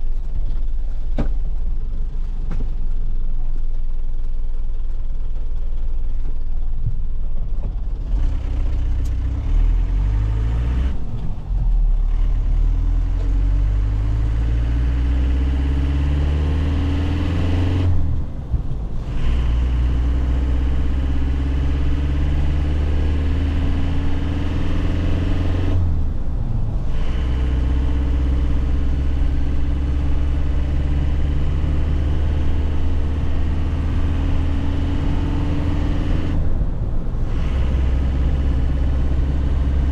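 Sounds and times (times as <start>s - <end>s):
diesel truck engine accelerating: 0.0s - 39.9s.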